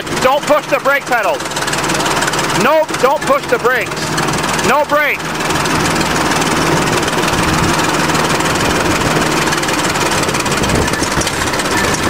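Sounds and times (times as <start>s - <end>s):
diesel engine clattering: 0.0s - 12.0s.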